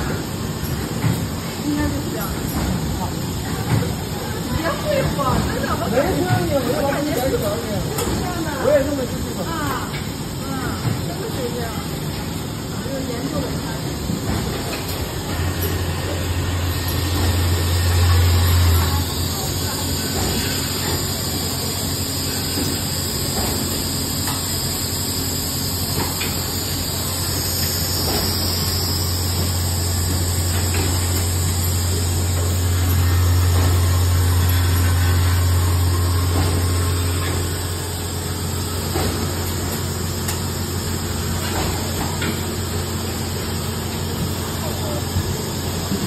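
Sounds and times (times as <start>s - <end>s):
machine low hum: 0.0s - 46.0s.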